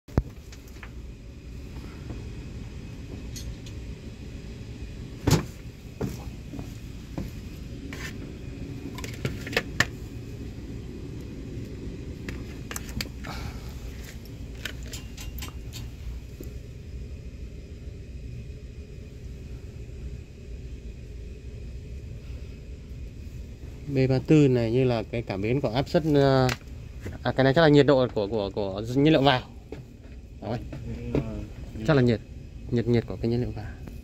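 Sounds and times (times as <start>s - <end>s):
low mechanical hum: 0.1s - 34.0s.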